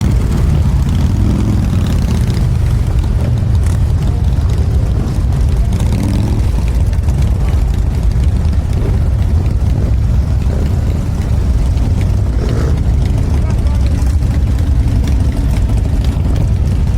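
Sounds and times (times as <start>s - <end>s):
vehicle engine and road noise: 0.0s - 16.9s.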